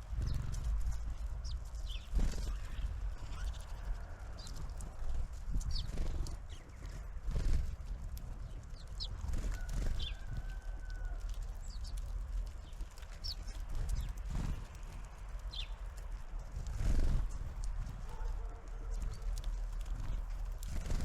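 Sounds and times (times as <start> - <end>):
constant low rumble: 0.0 - 21.0
small birds chirping: 0.0 - 21.0.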